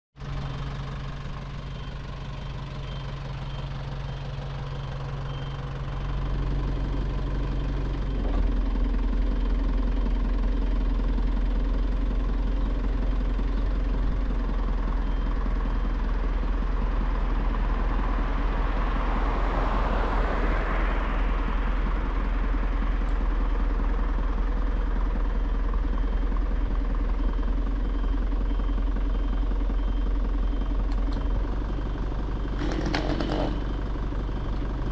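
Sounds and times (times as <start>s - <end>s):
truck engine running: 0.2s - 34.9s.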